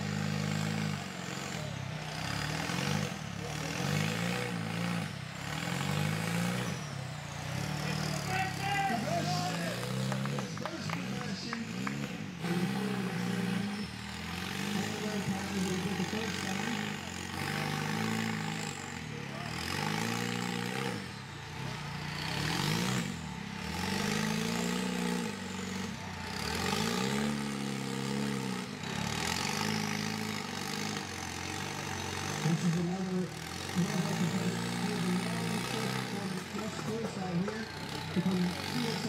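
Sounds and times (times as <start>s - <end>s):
buggy engine revving under load: 0.0s - 39.0s.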